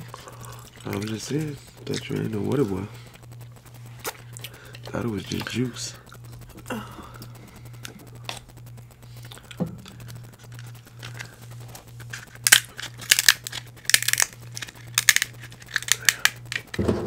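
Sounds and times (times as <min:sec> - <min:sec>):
crab shell cracking: 0:00.0 - 0:02.3, 0:03.4 - 0:16.8
low steady hum: 0:00.0 - 0:17.0.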